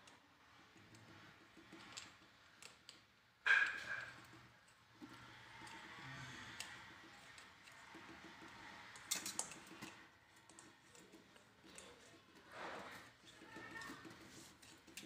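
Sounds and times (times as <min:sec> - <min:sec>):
small metal parts clicking: 0:00.0 - 0:15.0.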